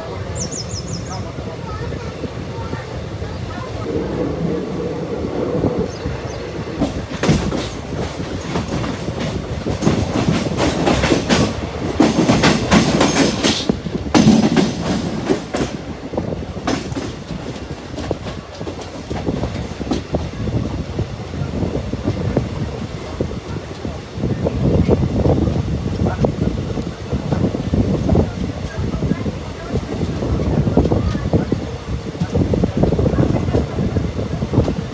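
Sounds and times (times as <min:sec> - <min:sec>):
train wheels clattering over rail joints: 0:05.8 - 0:34.9.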